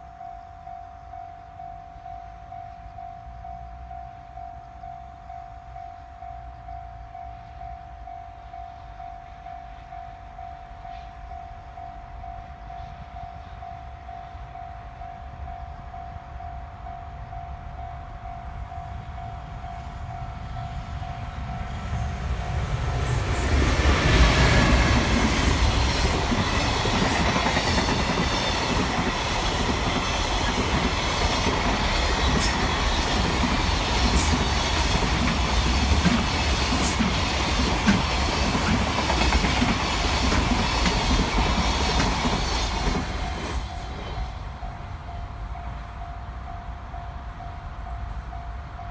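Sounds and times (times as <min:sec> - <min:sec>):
faint steady tone: 0:00.0 - 0:35.2, 0:43.6 - 0:48.9
freight train rumble: 0:00.0 - 0:48.9.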